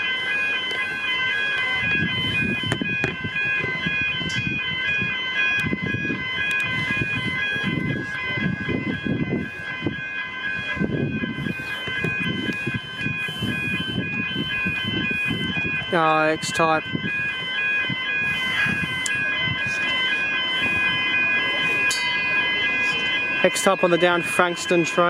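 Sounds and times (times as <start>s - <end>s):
level crossing bells ringing: 0.0s - 25.0s.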